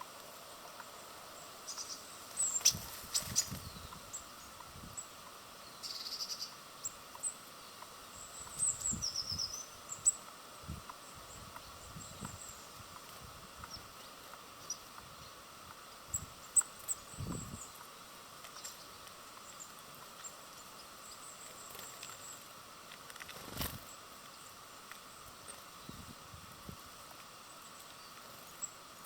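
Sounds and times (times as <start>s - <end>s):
small birds chirping: 0.0s - 29.0s
steady background hiss: 0.0s - 29.0s.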